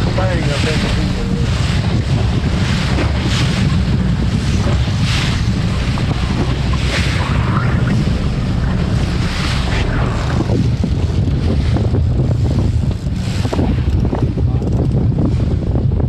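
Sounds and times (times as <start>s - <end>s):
water washing against hull: 0.0s - 16.0s
wind buffeting microphone: 0.0s - 16.0s.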